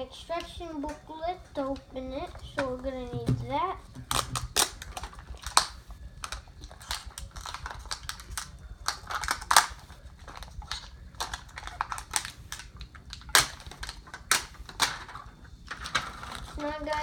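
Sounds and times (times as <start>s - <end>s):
plastic packaging and paper crackling: 1.6s - 17.0s.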